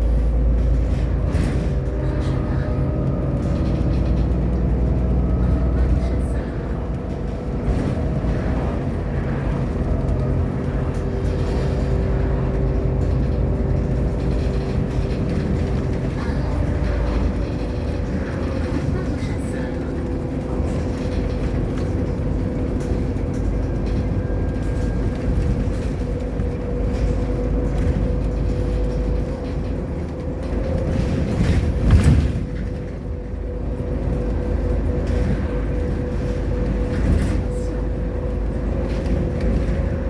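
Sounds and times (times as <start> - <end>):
bus engine droning: 0.0 - 40.0
drivetrain whine: 0.0 - 40.0
road noise: 0.0 - 40.0.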